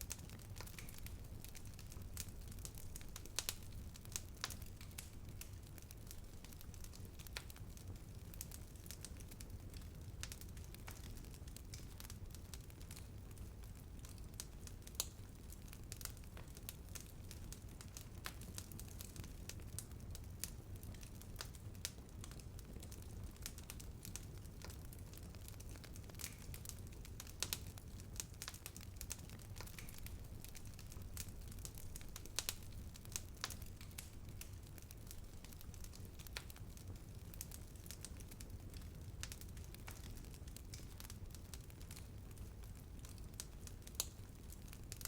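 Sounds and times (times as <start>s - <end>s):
fire crackling and popping: 0.0s - 45.0s
wood fire rumbling: 0.0s - 45.0s.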